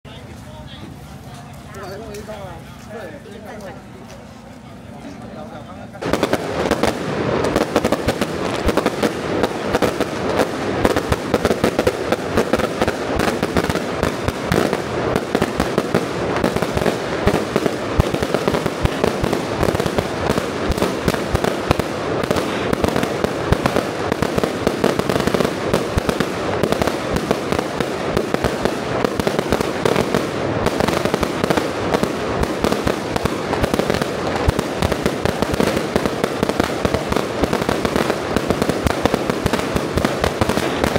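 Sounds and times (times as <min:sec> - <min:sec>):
firecrackers and fireworks banging: 0:00.0 - 0:40.9.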